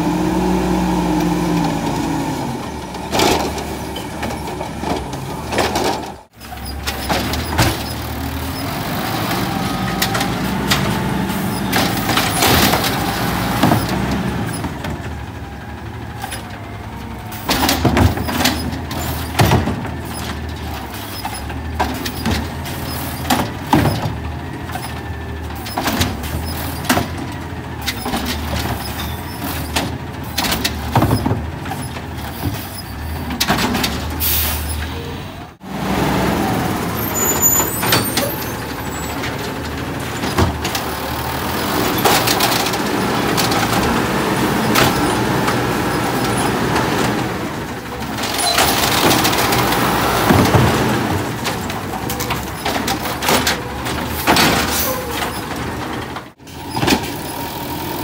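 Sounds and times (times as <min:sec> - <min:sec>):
garbage truck engine running: 0:00.0 - 0:58.0
knocks and bangs of bin carts: 0:01.2 - 0:34.8, 0:35.6 - 0:58.0.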